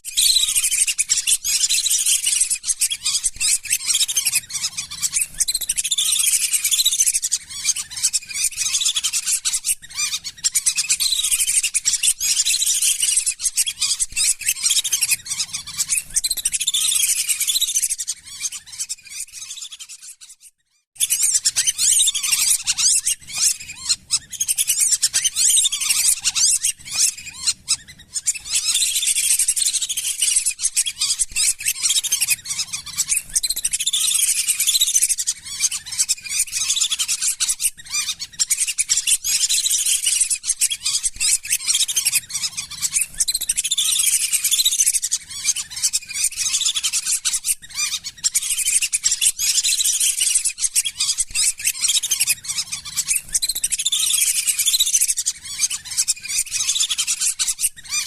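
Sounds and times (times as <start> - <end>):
ducks whistling chirps: 0.0 - 58.0.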